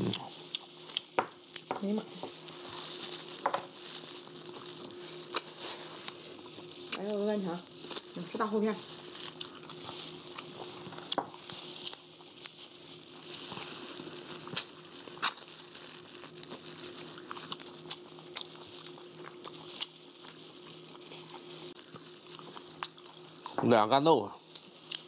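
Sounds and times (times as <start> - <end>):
people chewing and eating: 0.0 - 25.0.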